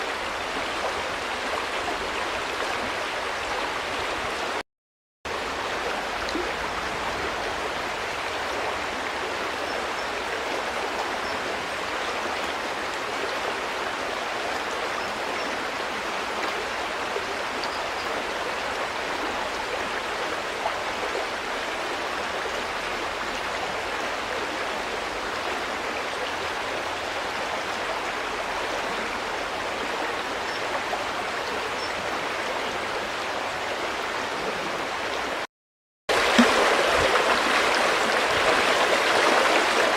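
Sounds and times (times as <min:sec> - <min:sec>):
river water babbling over stones: 0:00.0 - 0:04.6, 0:05.3 - 0:35.4, 0:36.1 - 0:39.9.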